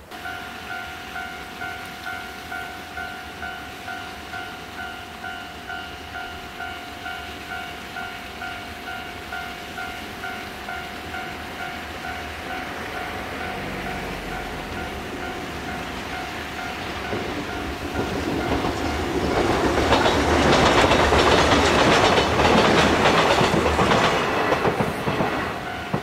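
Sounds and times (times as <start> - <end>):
approaching electric train rumble: 0.0 - 26.0.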